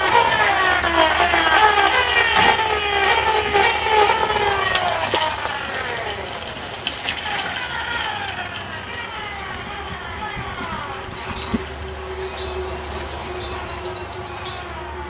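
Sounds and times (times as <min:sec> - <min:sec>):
engines passing: 0:00.0 - 0:15.0.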